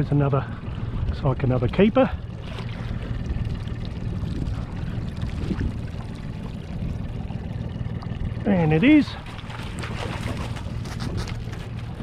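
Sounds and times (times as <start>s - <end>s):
outboard motor humming: 0.0s - 12.0s
water sloshing against boat: 0.0s - 12.0s.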